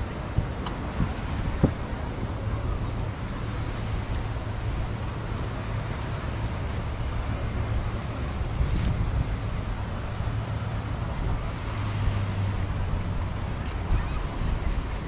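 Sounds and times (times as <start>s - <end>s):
surf hiss: 0.0s - 15.0s
wind buffeting microphone: 0.0s - 15.0s.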